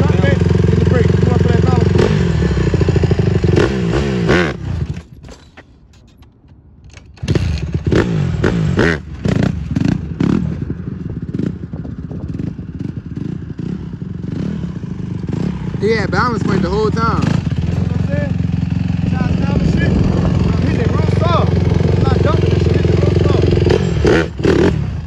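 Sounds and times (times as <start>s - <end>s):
dirt bike engine revving: 0.0s - 5.1s, 7.2s - 25.0s.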